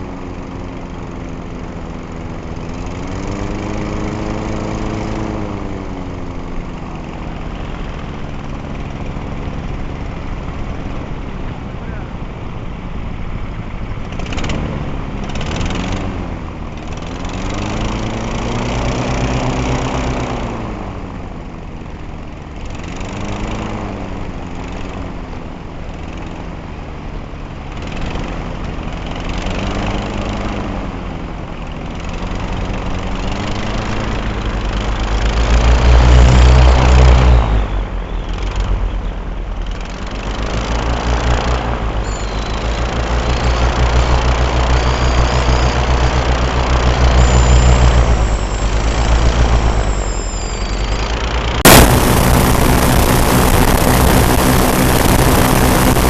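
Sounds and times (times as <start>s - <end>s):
airboat engines and propellers: 0.0s - 56.0s.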